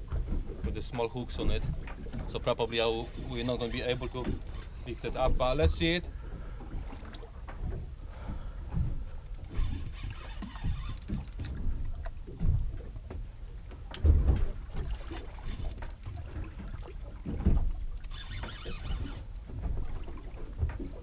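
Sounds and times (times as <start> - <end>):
water slapping against hull: 0.0 - 21.0.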